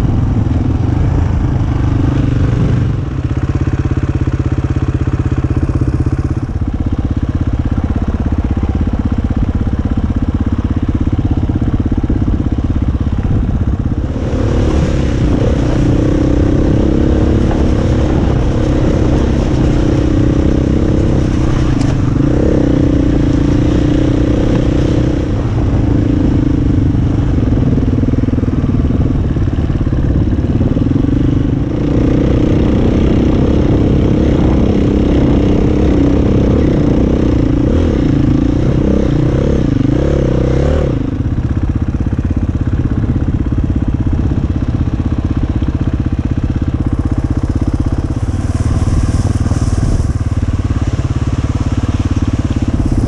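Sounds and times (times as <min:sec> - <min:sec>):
dirt bike engine: 0:00.0 - 0:53.0.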